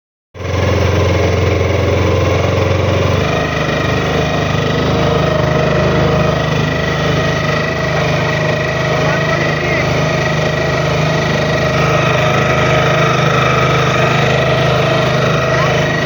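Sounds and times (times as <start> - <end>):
boat engine running: 0.4 - 16.0.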